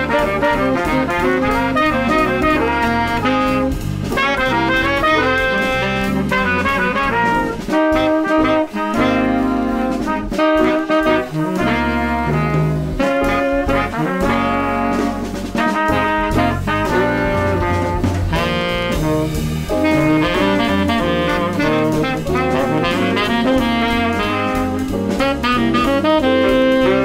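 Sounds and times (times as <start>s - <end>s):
brass-led jazz music: 0.0s - 27.0s.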